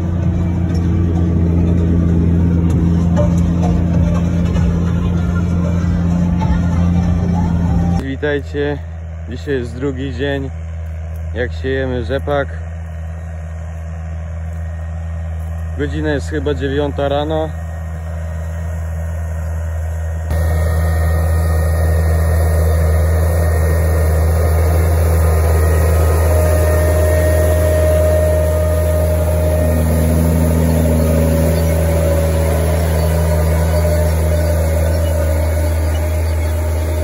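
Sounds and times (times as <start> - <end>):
thin steady whine: 0.0 - 37.0
tractor diesel engine under load: 0.0 - 37.0.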